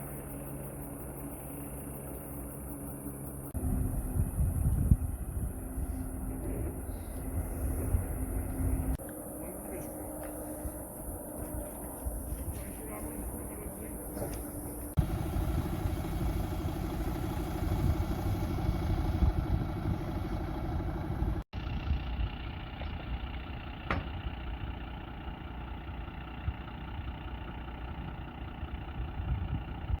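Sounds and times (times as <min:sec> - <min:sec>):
engine idling: 0:00.0 - 0:30.0
steady engine drone: 0:00.0 - 0:30.0.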